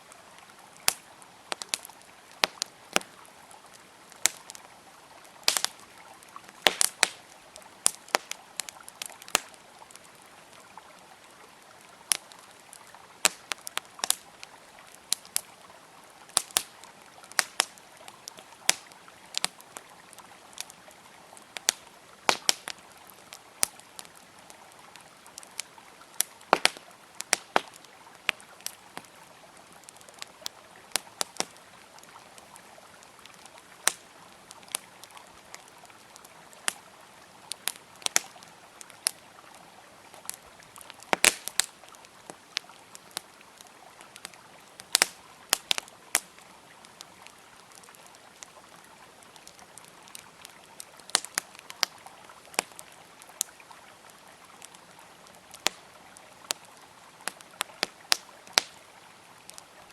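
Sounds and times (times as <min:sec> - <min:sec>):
river water flowing: 0:00.0 - 0:59.9
wood fire crackling and popping: 0:00.1 - 0:58.8.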